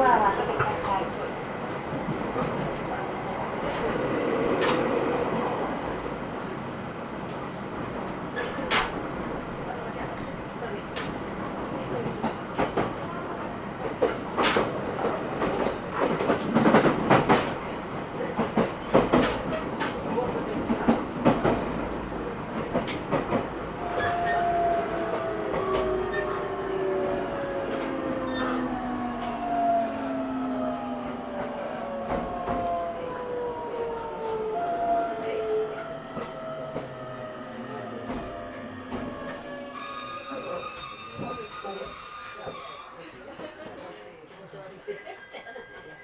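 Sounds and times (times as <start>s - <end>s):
train cabin rumble and hum: 0.0s - 41.9s.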